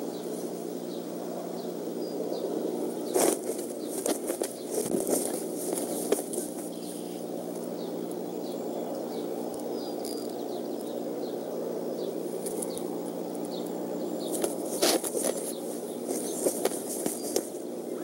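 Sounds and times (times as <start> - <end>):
faint microphone hum: 0.0 - 18.0
small bird chirping: 0.0 - 18.0.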